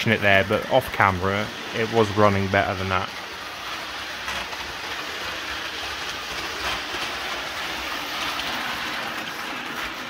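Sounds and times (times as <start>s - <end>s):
model train whirring: 0.0s - 10.0s
wheels clicking on rails: 0.0s - 10.0s.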